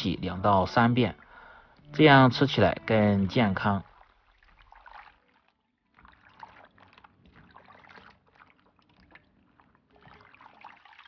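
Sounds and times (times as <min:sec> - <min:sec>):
water sloshing in a metal bowl: 0:00.2 - 0:11.0.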